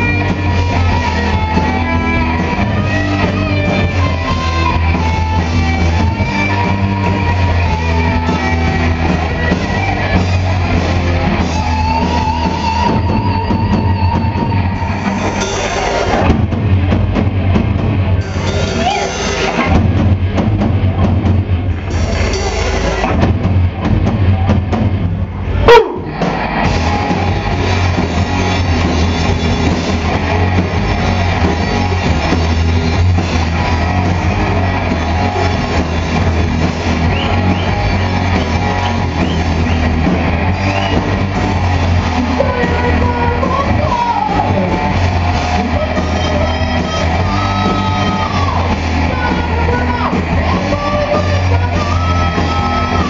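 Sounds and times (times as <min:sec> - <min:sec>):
hard rock band playing: 0:00.0 - 0:53.0.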